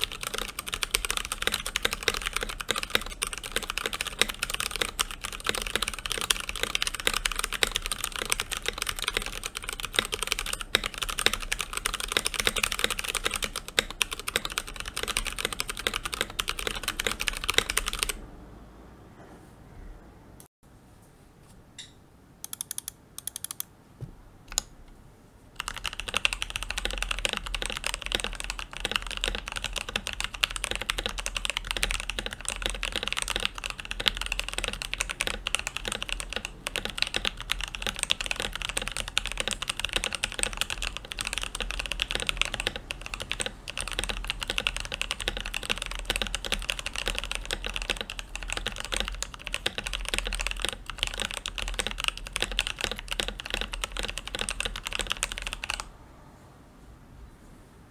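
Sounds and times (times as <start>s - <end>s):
mechanical keyboard typing: 0.0s - 18.2s, 22.4s - 23.7s, 24.5s - 24.7s, 25.6s - 55.9s.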